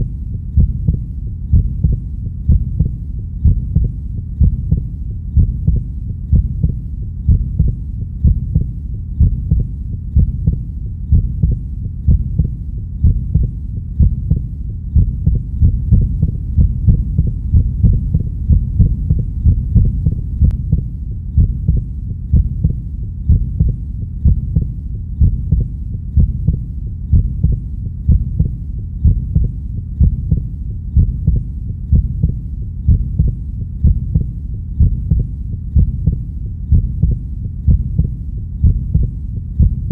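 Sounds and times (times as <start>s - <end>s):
continuous low hum: 0.0s - 39.9s
muffled heartbeat thumps: 0.0s - 39.9s.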